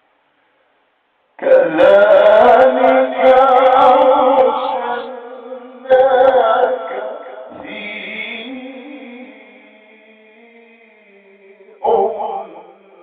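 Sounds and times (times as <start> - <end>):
man chanting melodically: 1.4 - 13.0.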